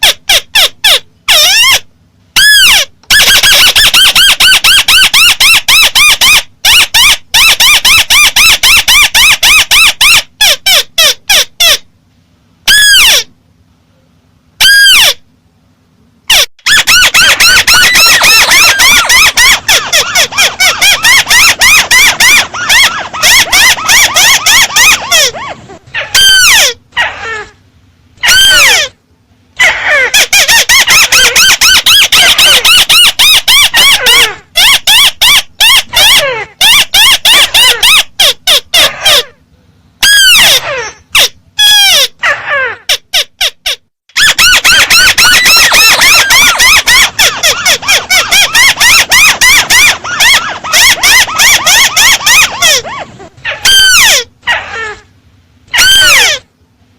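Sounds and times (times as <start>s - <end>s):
high squealing bird calls: 0.0s - 11.9s, 12.7s - 13.3s, 14.6s - 15.2s, 16.3s - 27.6s, 28.2s - 29.0s, 29.6s - 39.4s, 40.0s - 55.1s, 55.7s - 56.5s.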